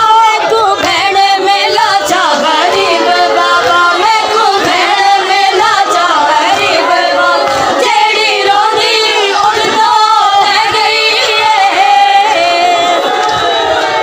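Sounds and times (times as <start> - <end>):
women chanting a lament: 0.0 - 14.0.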